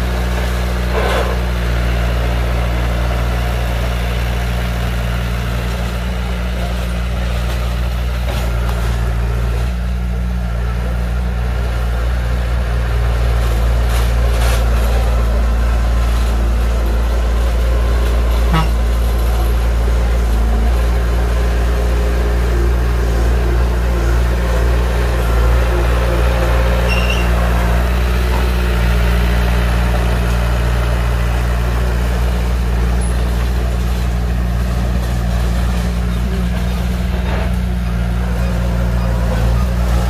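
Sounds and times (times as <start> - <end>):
heavy diesel engine droning: 0.0 - 40.0.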